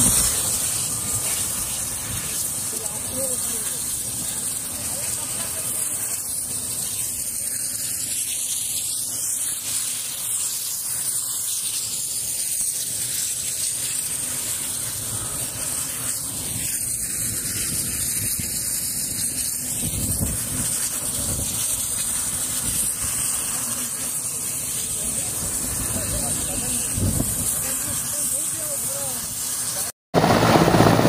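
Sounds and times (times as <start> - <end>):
helicopter turbine whine: 0.0 - 31.0
low rotor rumble: 0.0 - 31.0.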